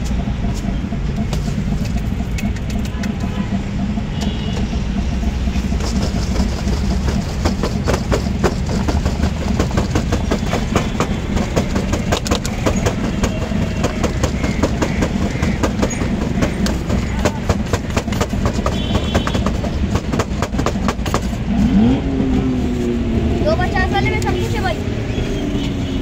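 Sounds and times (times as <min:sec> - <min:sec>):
sharp clicks and rattles: 0:00.0 - 0:21.5
low engine-like rumble: 0:00.0 - 0:26.0.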